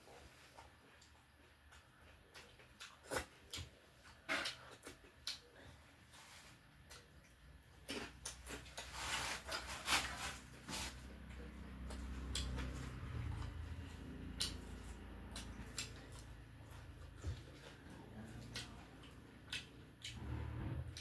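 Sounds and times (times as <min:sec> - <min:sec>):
person chewing: 0:00.5 - 0:21.0.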